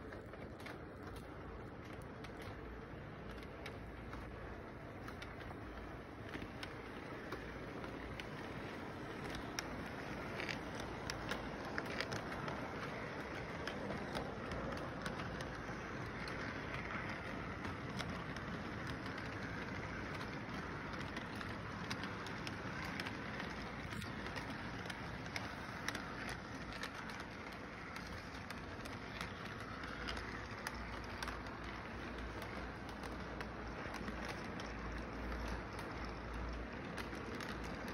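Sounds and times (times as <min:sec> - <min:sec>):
light clicks of train wheels: 0:00.0 - 0:37.9
model train rumbling on track: 0:00.0 - 0:37.9.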